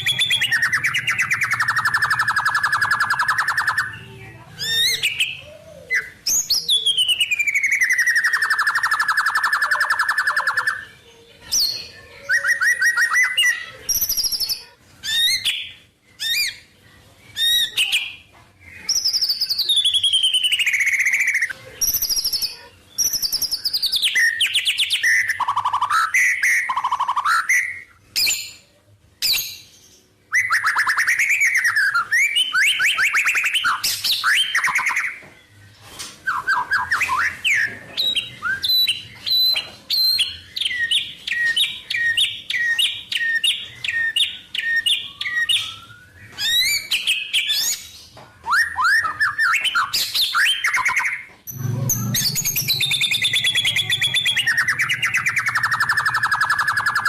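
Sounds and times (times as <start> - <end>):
bird singing whistled phrases and trills: 0.0 - 57.0.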